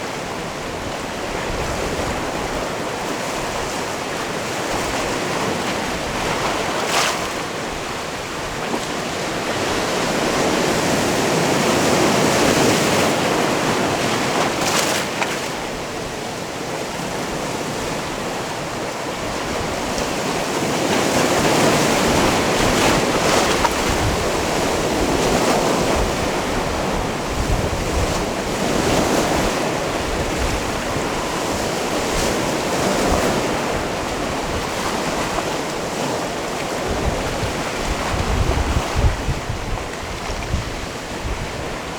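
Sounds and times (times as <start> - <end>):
waves on stony shore: 0.0 - 41.9.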